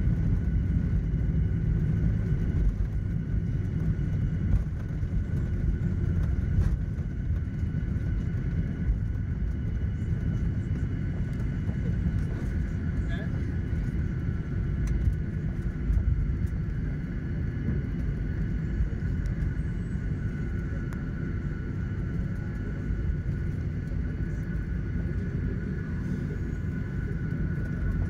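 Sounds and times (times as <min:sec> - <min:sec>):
jet engine high whine: 0:00.0 - 0:28.0
low rumble of wheels: 0:00.0 - 0:28.0.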